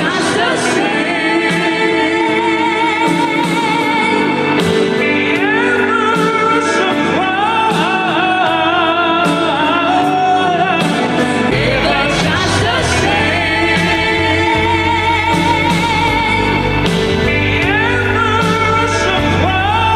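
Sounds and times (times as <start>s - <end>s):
band accompaniment: 0.0s - 19.9s
duet singing with vibrato: 0.0s - 19.9s.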